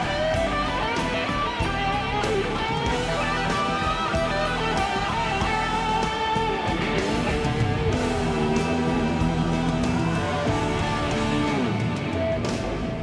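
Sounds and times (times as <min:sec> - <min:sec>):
guitar-led rock music: 0:00.0 - 0:13.0.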